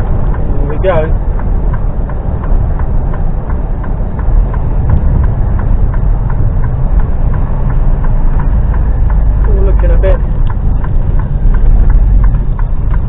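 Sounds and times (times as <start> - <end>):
light regular ticking: 0.0 - 13.0
lorry diesel engine rumbling: 0.0 - 13.0.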